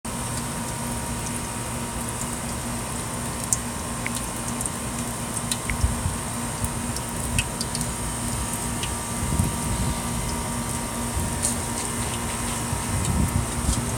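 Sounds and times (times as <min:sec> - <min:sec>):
faint steady hum: 0:00.1 - 0:13.9.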